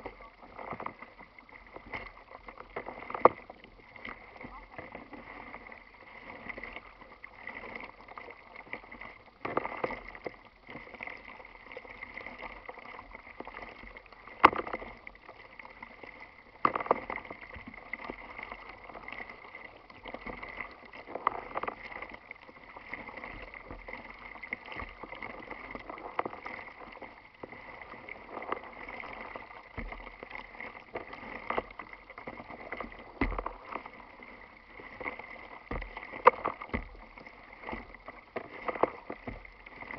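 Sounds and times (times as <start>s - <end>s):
water splashes: 0.0s - 39.9s
waves lapping against kayak hull: 0.0s - 39.9s.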